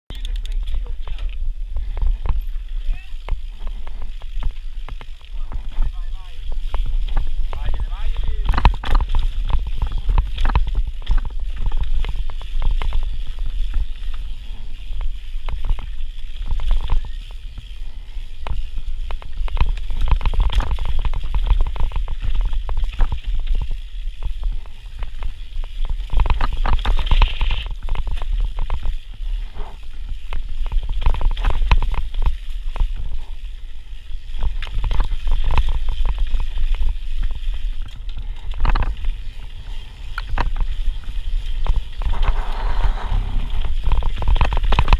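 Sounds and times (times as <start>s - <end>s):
bike rattling and knocking: 0.1s - 44.9s
wind rumble on microphone: 0.1s - 44.9s.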